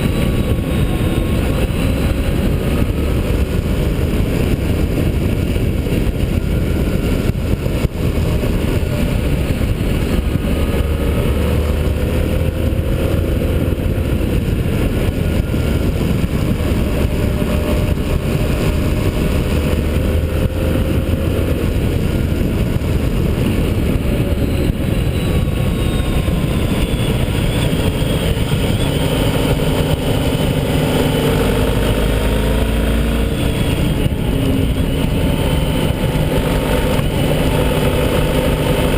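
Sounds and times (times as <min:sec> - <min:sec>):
motorcycle engine at speed: 0:00.0 - 0:38.9
wind noise: 0:00.0 - 0:38.9.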